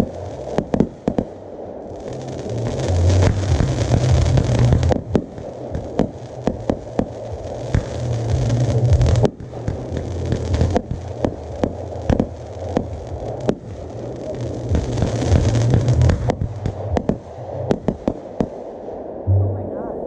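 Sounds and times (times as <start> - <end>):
fireworks bangs and crackles: 0.0 - 19.0
steady low rumble: 0.0 - 20.0
fireworks shells launching: 2.0 - 18.6.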